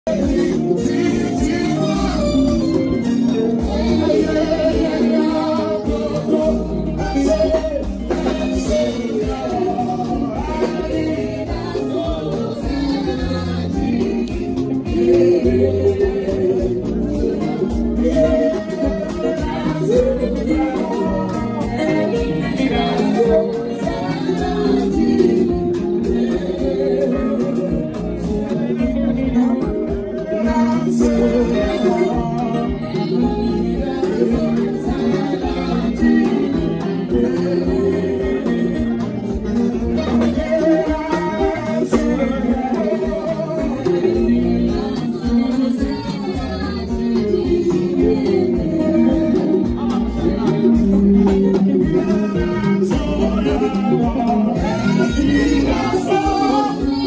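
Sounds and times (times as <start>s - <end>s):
amplified singing: 0.0s - 57.0s
bass guitar: 0.0s - 57.0s
electric guitar: 0.0s - 57.0s
keyboard: 0.0s - 57.0s
live band playing gospel music: 0.0s - 57.0s
drum kit with cymbal strikes: 0.1s - 57.0s.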